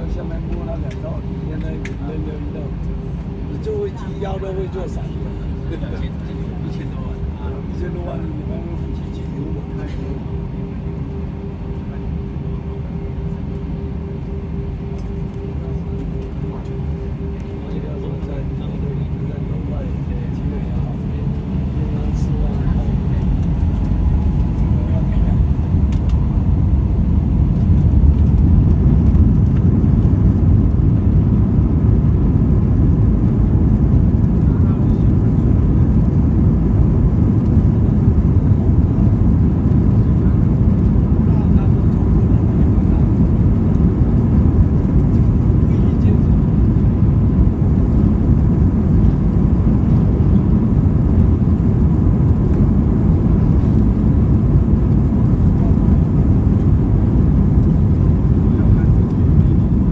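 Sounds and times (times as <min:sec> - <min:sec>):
airliner cabin rumble: 0:00.0 - 0:59.9
faint steady whine: 0:00.0 - 0:59.9.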